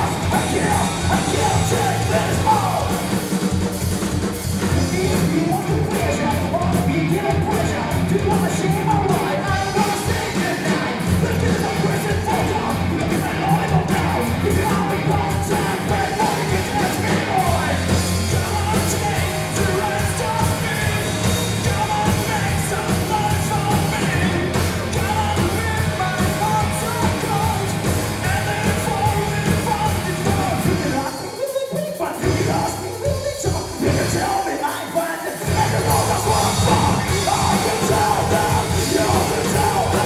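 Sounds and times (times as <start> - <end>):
person singing: 0.0 - 3.2, 4.6 - 40.0
bass guitar: 0.0 - 31.1, 32.2 - 34.4, 35.4 - 40.0
electric guitar: 0.0 - 34.8, 35.4 - 40.0
drum kit: 0.0 - 40.0.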